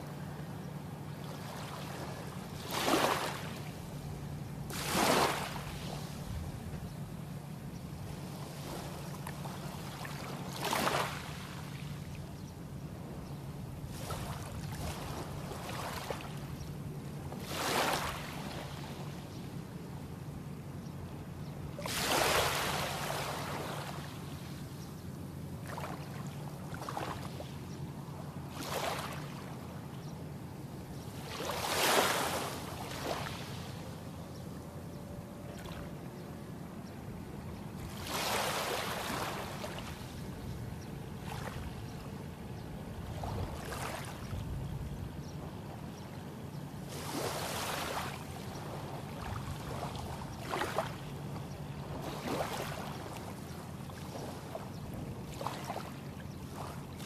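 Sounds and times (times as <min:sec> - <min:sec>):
small waves lapping on beach: 0:00.0 - 0:57.0
steady low hum: 0:00.0 - 0:57.0.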